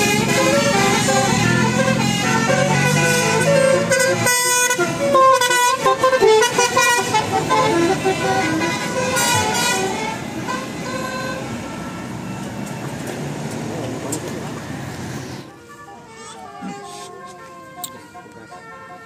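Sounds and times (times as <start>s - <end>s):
bus horn playing a tune: 0.0s - 12.6s, 15.2s - 19.0s.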